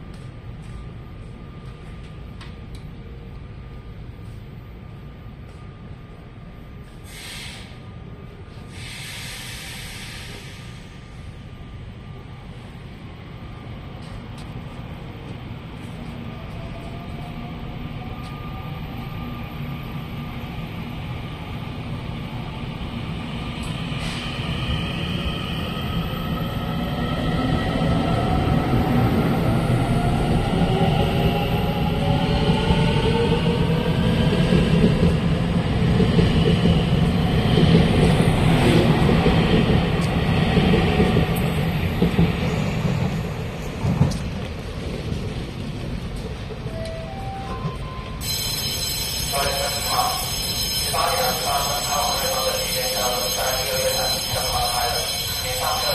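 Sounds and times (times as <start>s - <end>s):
train low rumble: 0.0s - 55.9s.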